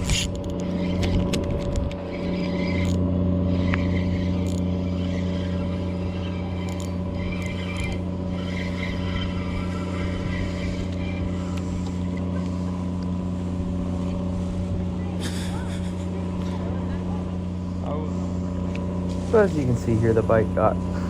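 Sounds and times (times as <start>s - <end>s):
motor droning: 0.0s - 21.0s.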